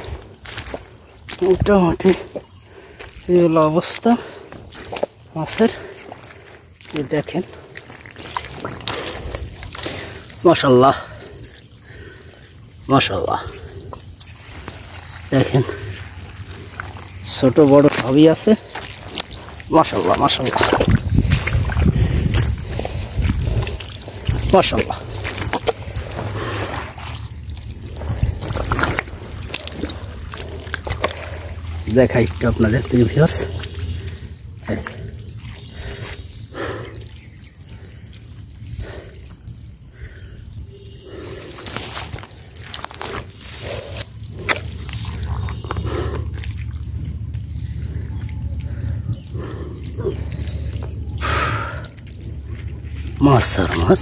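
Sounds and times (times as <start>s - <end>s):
water trickling over mud: 0.0s - 54.0s.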